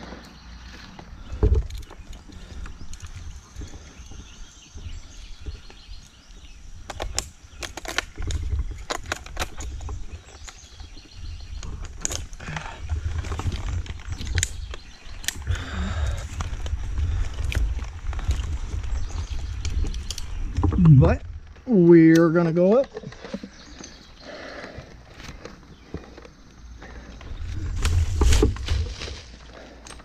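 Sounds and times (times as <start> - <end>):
climbing gear clicking and clinking: 0.0 - 30.0.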